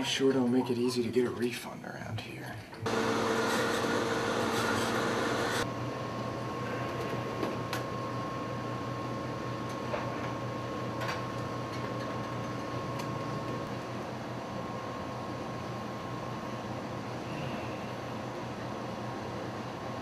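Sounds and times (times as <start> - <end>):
quiet machine hum: 0.0 - 20.0
vending machine humming: 2.8 - 20.0.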